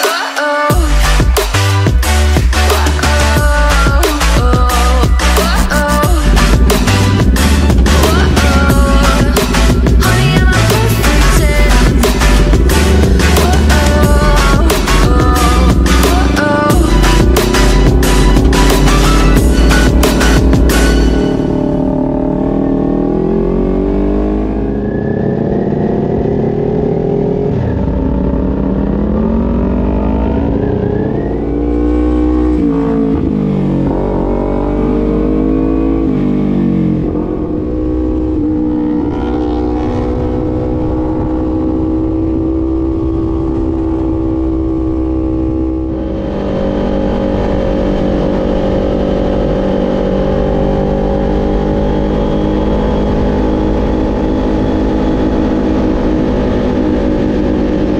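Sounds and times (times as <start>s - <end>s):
motorcycle engine revving: 0.7s - 57.9s.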